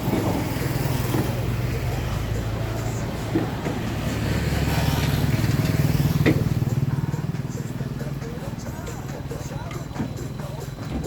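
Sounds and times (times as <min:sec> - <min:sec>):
small vehicle engine running: 0:00.0 - 0:11.0.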